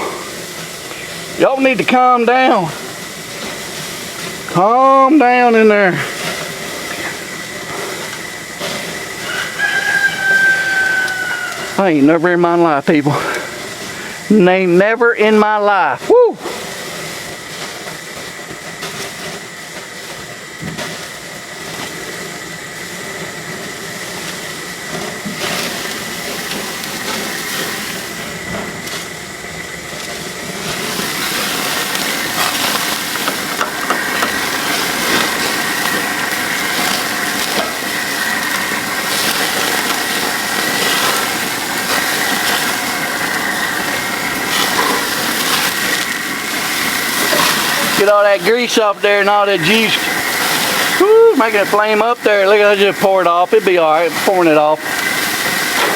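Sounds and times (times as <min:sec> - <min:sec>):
grease sizzling on a grill: 0:00.0 - 0:55.9.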